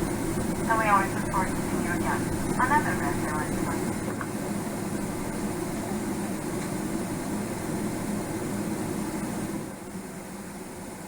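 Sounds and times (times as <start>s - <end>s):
aircraft cabin hum: 0.0s - 11.0s.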